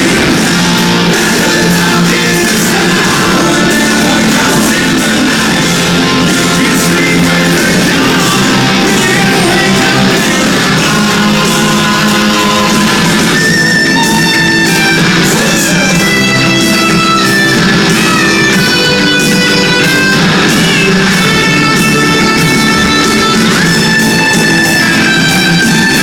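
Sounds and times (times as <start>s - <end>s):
hard rock band playing: 0.0s - 26.0s
heavy electric guitars: 0.0s - 26.0s.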